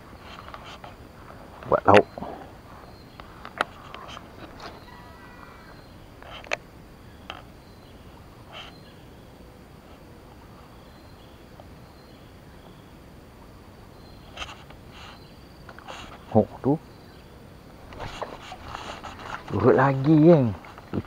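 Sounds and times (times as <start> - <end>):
insects calling: 0.0 - 21.0.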